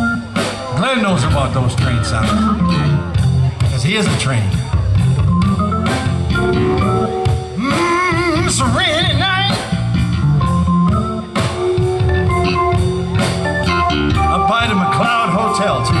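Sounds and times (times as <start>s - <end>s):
live band playing soul ballad: 0.0s - 16.0s.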